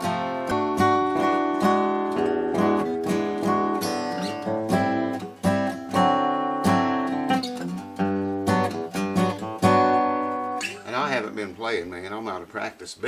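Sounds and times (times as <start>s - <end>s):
acoustic guitar picked and strummed: 0.0s - 12.7s.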